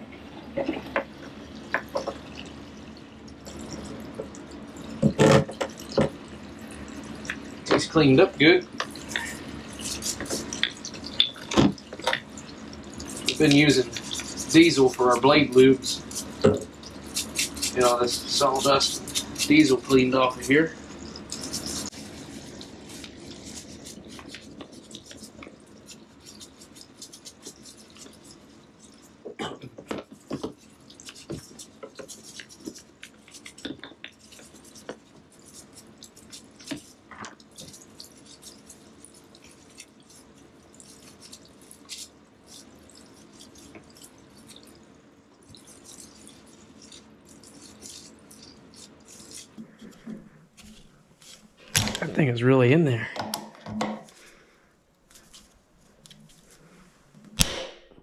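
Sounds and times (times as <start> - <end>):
liquid dripping and trickling: 0.0 - 52.0
faint steady hum: 0.0 - 58.0.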